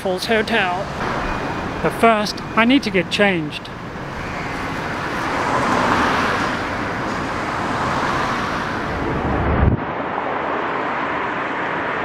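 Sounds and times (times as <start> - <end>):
traffic hum: 0.0 - 12.0
vehicle passing: 0.5 - 12.0.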